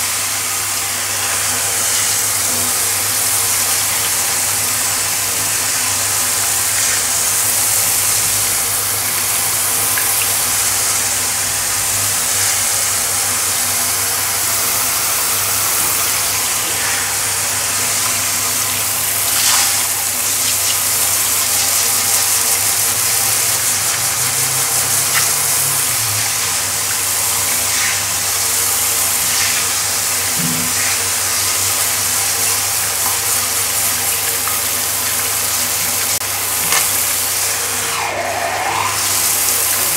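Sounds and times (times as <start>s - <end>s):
shower head spraying water on tiles: 0.0s - 38.0s, 38.6s - 39.9s.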